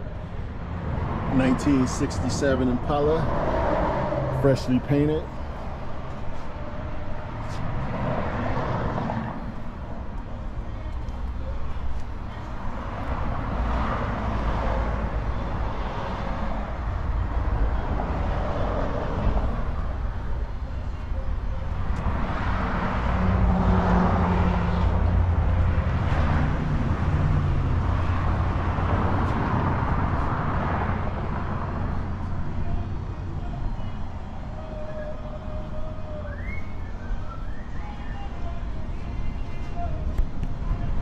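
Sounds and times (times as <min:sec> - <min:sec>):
low vehicle rumble: 0:05.2 - 0:41.0.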